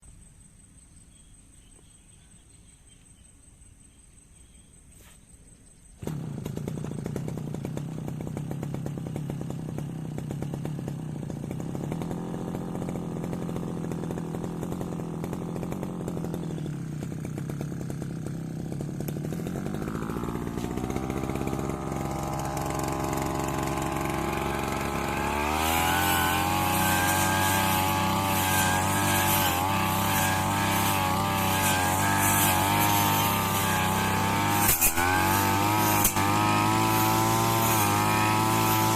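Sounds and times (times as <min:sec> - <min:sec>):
brush cutter engine running: 0:06.0 - 0:38.9.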